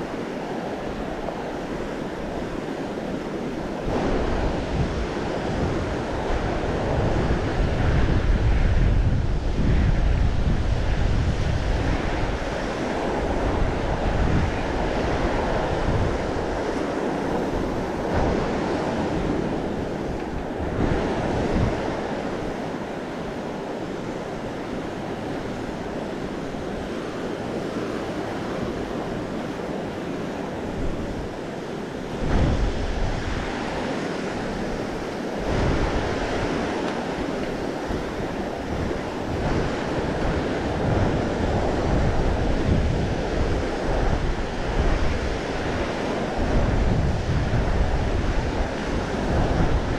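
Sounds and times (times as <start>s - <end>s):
ocean surf washing on beach: 0.0s - 49.9s
wind buffeting microphone: 0.0s - 49.9s.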